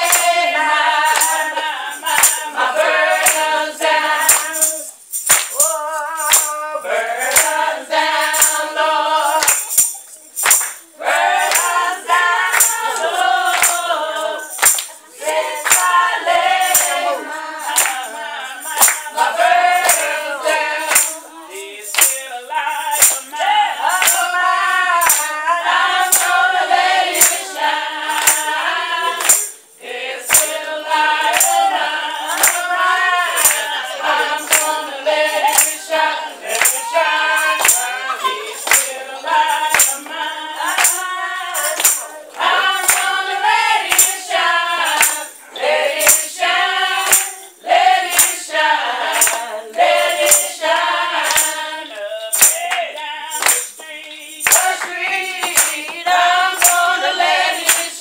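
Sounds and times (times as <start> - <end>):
congregation singing: 0.0 - 58.0
tambourine beat: 0.0 - 58.0.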